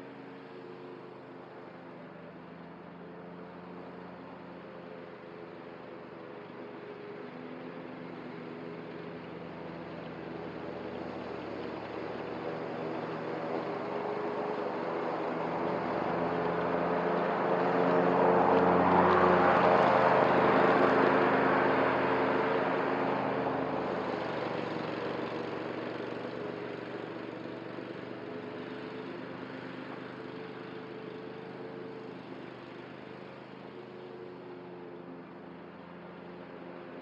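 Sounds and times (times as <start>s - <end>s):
lawn mower running: 0.0s - 37.0s.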